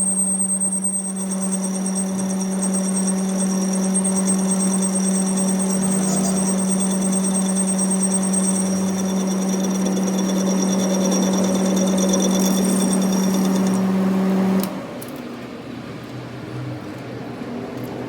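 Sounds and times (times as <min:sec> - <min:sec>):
workshop machine humming and whining: 0:00.0 - 0:16.0.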